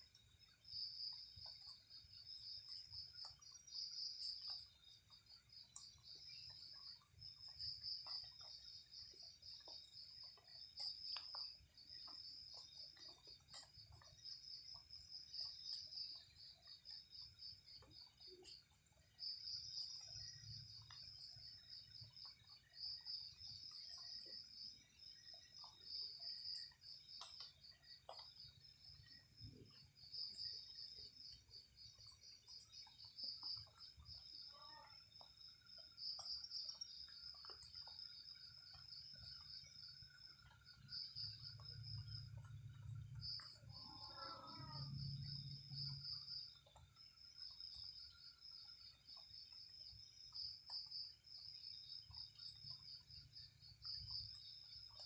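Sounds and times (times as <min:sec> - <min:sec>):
crickets chirring: 0:00.0 - 0:55.0
faint ticks and rustles: 0:00.0 - 0:55.0.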